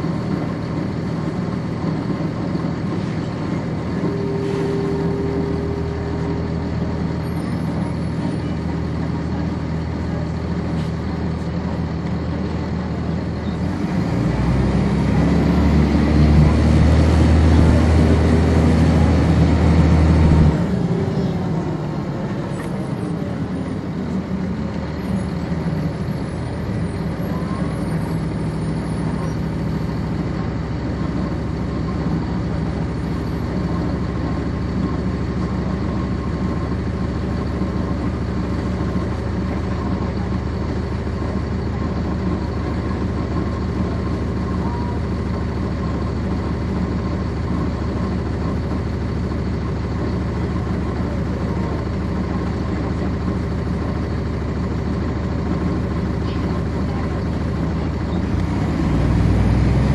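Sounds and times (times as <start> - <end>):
bus diesel engine: 0.0 - 59.9
falling engine whine: 0.0 - 59.9.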